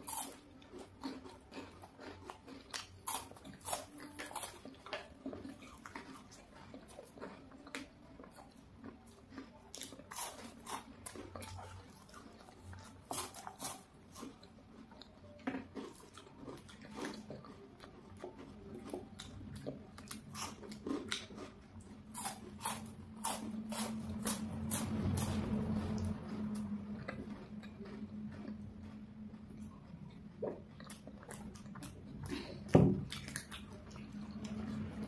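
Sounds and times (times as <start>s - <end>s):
chocolate crunching: 0.0s - 35.0s
low steady hum: 0.0s - 35.0s.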